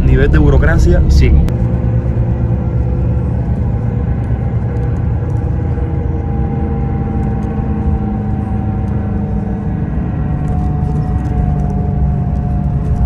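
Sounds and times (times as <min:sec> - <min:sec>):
faint whine: 0:00.0 - 0:13.0
vehicle engine rumble: 0:00.0 - 0:13.0.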